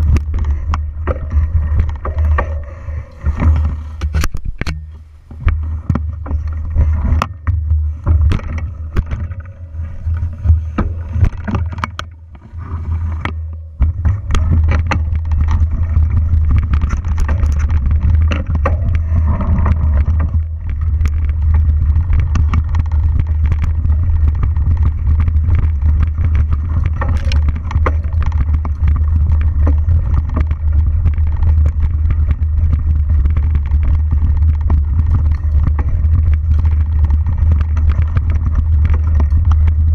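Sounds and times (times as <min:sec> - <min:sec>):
bike clicks knocks and rattles: 0:00.0 - 0:39.9
wind rumble on microphone: 0:00.0 - 0:39.9.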